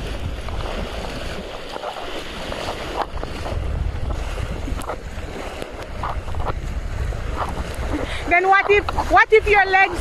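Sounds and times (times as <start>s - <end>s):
water rushing against hull: 0.0s - 10.0s
wind buffeting microphone: 0.0s - 10.0s.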